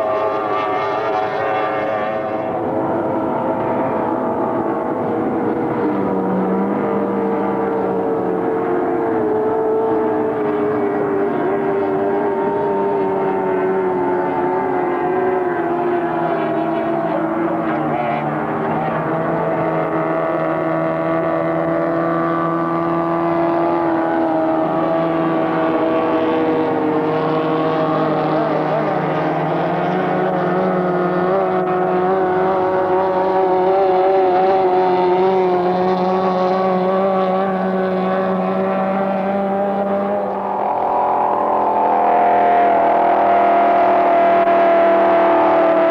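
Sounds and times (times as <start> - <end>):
hydroplane engines droning: 0.0 - 45.9.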